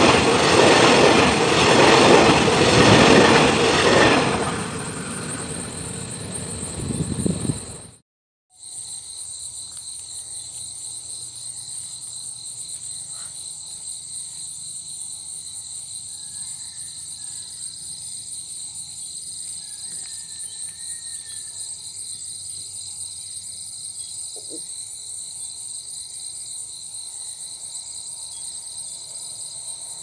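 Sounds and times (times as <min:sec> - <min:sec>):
crickets and insects trilling: 0:00.0 - 0:07.9, 0:08.6 - 0:30.0.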